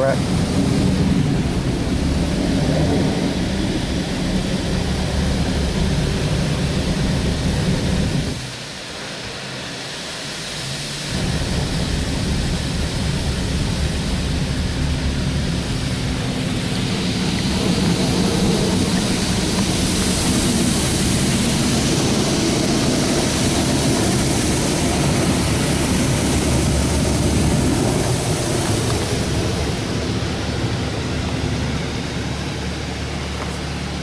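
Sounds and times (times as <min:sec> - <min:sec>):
car wash spray hissing: 0:00.0 - 0:34.0
low drone: 0:00.0 - 0:34.0.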